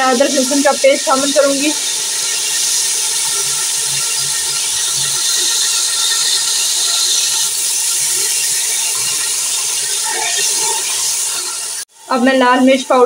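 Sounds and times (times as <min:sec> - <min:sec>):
paste sizzling in hot oil: 0:00.0 - 0:13.0
spatula stirring in pan: 0:00.2 - 0:11.8.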